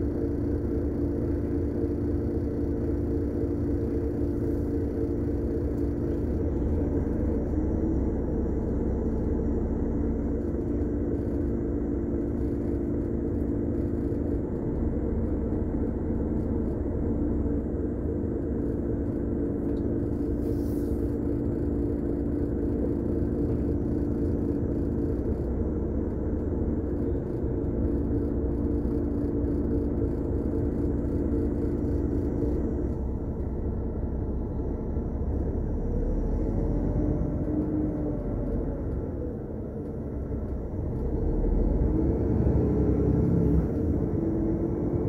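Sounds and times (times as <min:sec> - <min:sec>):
truck diesel engine droning: 0:00.0 - 0:45.0.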